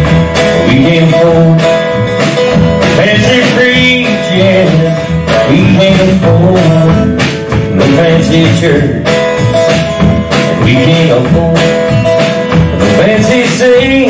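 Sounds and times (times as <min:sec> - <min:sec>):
acoustic guitar: 0:00.0 - 0:14.0
drum kit: 0:00.0 - 0:14.0
upright bass: 0:00.0 - 0:14.0.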